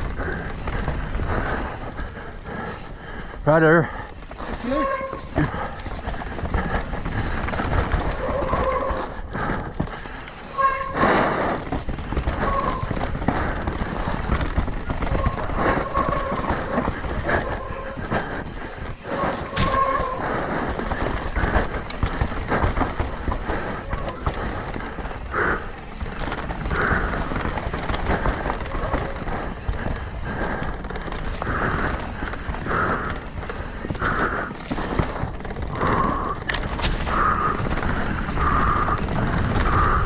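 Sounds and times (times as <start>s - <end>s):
bike knocking: 0.0s - 40.0s
mountain bike rattling: 0.0s - 40.0s
bike squealing: 4.3s - 9.2s, 10.3s - 39.9s.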